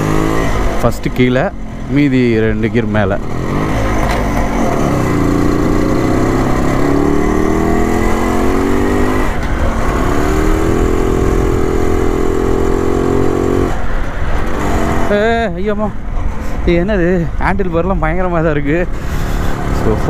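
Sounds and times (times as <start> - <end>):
motorcycle engine revving: 0.0 - 15.5, 19.0 - 20.0.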